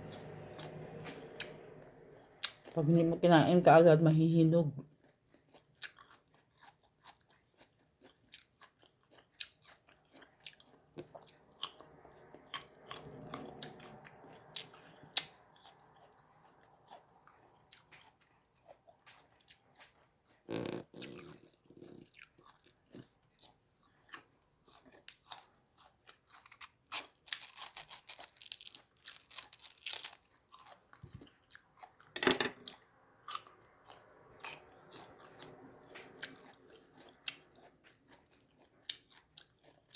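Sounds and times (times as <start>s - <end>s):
person chewing crunchy mango: 0.0s - 2.8s, 4.8s - 39.9s.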